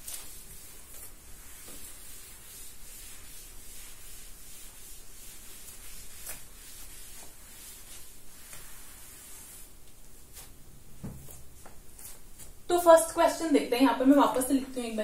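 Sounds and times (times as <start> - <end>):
cloth wiping chalkboard: 0.0 - 15.0.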